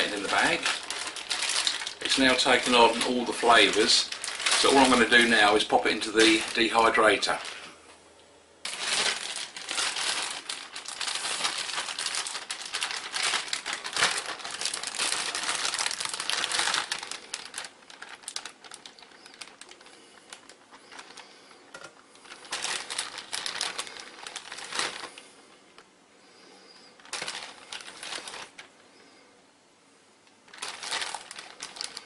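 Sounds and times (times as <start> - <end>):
plastic bag crinkling: 0.0 - 7.9, 8.6 - 29.2, 30.4 - 32.0.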